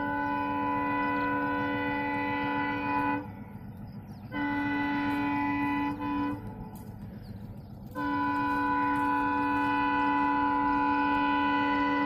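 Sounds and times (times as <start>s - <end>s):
locomotive horn blasts: 0.0s - 3.5s, 4.2s - 7.0s, 7.9s - 12.0s.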